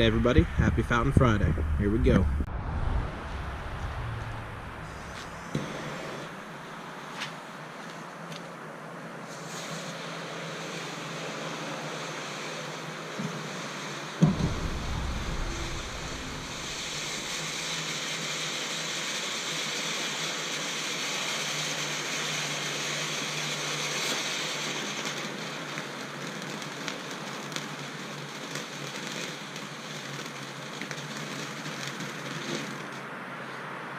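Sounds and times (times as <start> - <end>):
firework crackles: 0.0 - 33.2
firework fountain hissing: 3.8 - 33.1.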